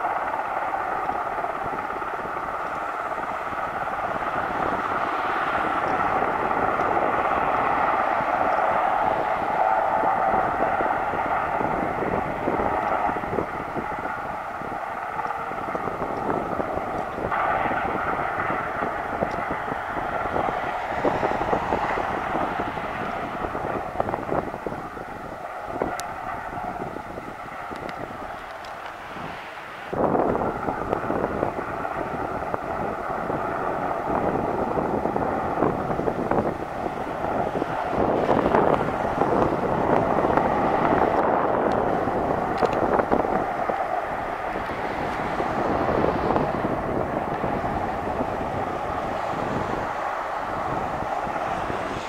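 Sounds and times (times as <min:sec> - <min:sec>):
helicopter engine whine: 0:00.0 - 0:52.0
helicopter rotor noise: 0:00.0 - 0:52.0
wind buffeting microphone: 0:00.0 - 0:52.0.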